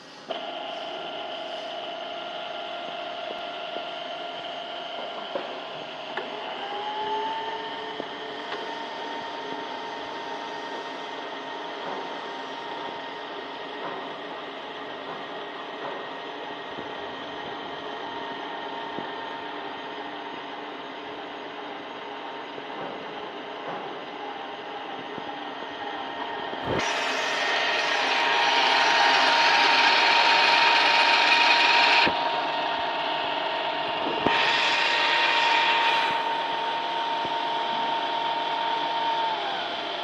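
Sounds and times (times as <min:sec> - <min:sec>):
milling machine motor hum: 0:00.0 - 0:40.0.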